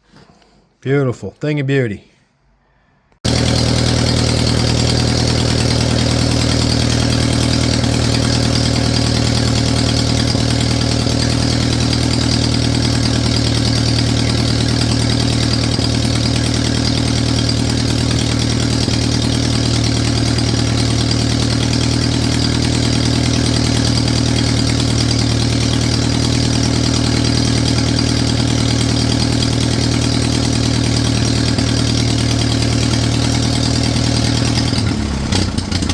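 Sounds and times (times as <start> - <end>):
tractor engine idling: 3.2 - 35.9.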